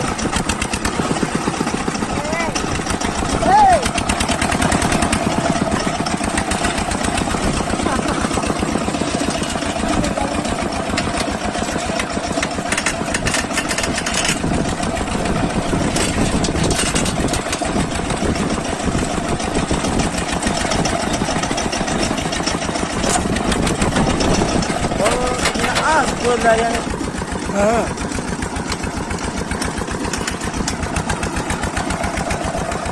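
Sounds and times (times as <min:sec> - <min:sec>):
truck engine running: 0:00.0 - 0:32.9.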